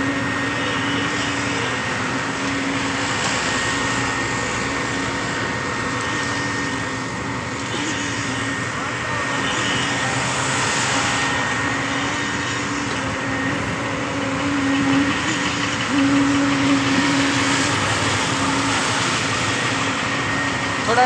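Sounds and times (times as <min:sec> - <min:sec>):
concrete pump engine drone: 0:00.0 - 0:21.0.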